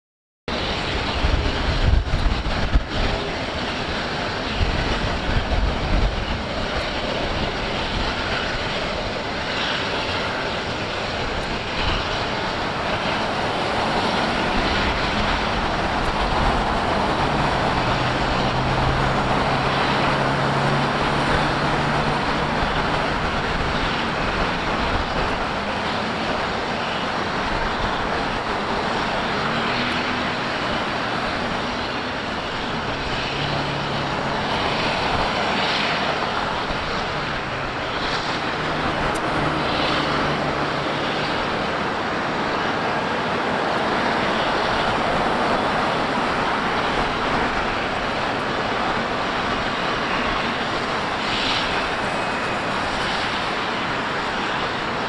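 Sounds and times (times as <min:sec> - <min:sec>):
cars and trucks passing: 0:00.5 - 0:55.0
low engine hum: 0:00.5 - 0:55.0.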